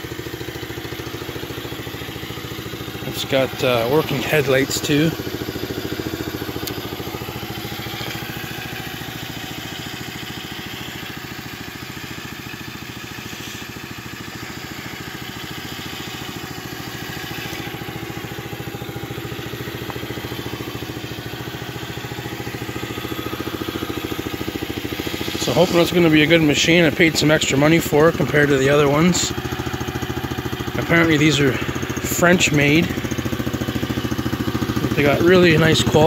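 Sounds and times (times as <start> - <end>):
small engine idling quietly: 0.0 - 36.0.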